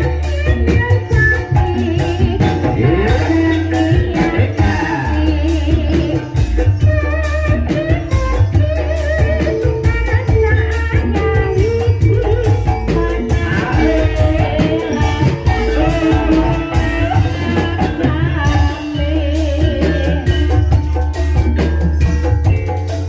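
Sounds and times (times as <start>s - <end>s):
person singing: 0.0s - 22.7s
drums: 0.0s - 23.0s
tuned percussion: 0.0s - 23.0s.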